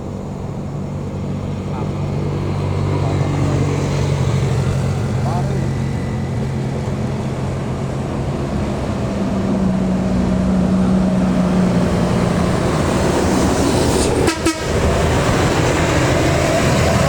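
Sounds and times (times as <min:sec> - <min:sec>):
road noise: 0:00.0 - 0:17.0
truck diesel engine under load: 0:00.0 - 0:17.0.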